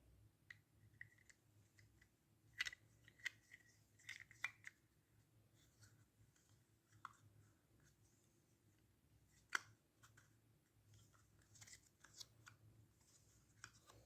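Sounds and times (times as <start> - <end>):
faint clicks and handling noise: 0.4 - 14.0.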